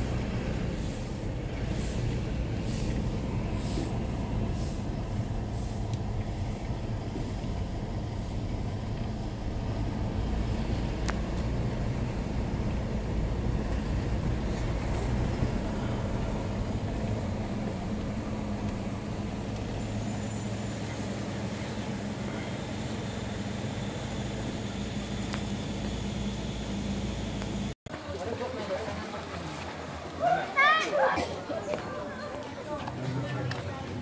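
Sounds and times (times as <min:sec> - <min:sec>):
car engine and tyre hum: 0:00.0 - 0:34.0.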